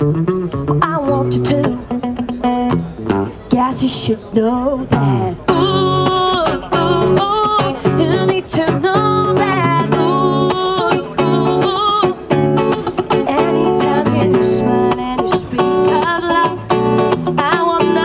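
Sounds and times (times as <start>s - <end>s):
strummed electric guitar: 0.0s - 4.2s, 4.8s - 18.0s
woman singing into microphone: 0.7s - 2.0s, 3.5s - 18.0s.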